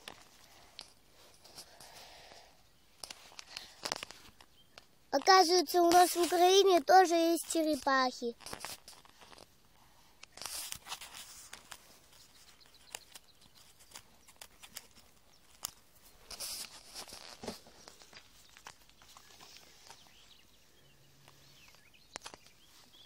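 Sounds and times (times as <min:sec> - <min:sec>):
rustling and crunching on gravel: 0:00.0 - 0:23.0.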